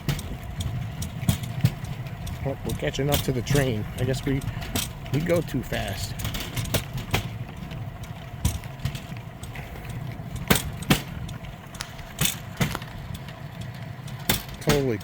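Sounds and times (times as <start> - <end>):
sharp clacks of wheels on rails: 0.0 - 15.0
steel wheels rumbling on track: 0.0 - 15.0.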